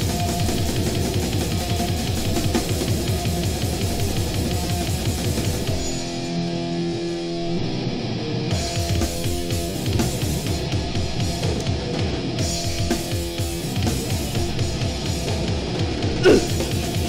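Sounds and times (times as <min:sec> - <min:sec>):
fast drums: 0:00.0 - 0:06.1, 0:08.5 - 0:17.0
grindcore band playing live: 0:00.0 - 0:17.0
guitar sustained chord: 0:00.0 - 0:17.0.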